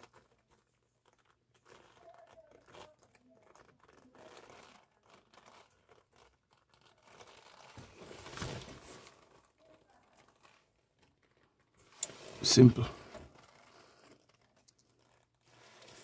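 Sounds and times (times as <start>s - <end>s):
rustling and scraping handling noise: 0.0s - 16.0s.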